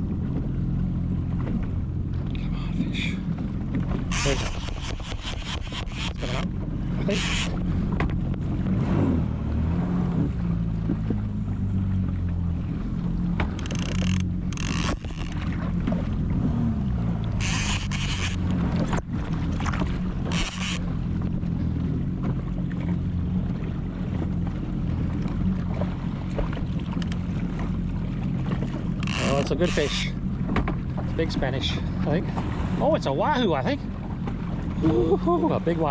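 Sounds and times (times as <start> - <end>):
jet ski engine idling: 0.0 - 35.9.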